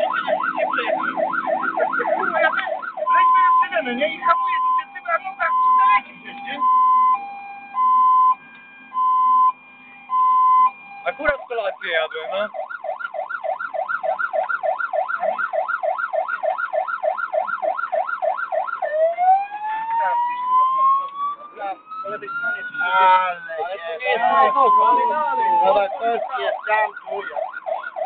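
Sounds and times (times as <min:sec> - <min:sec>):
fire engine electronic siren: 0:00.0 - 0:28.0.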